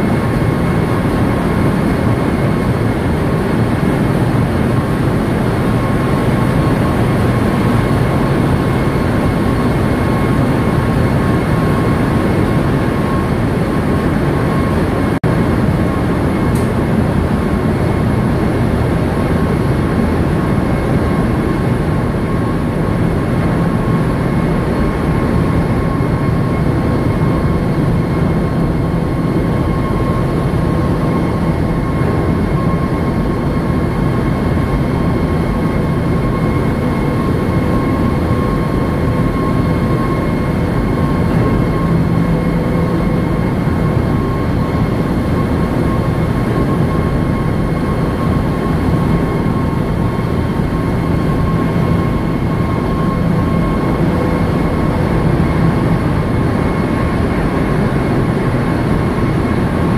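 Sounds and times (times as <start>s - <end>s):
constant high whine: 0.0s - 59.9s
engine room machinery rumbling: 0.0s - 59.9s.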